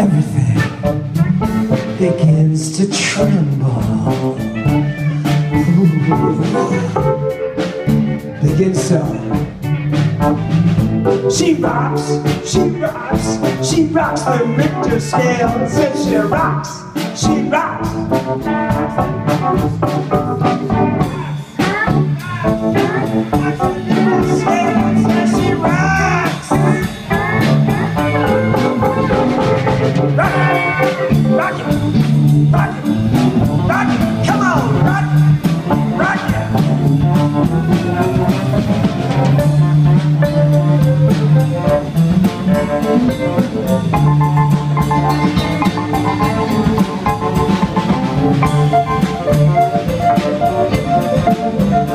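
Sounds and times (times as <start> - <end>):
drum kit beat: 0.0 - 51.9
electric bass: 0.0 - 51.9
keyboards: 0.0 - 51.9.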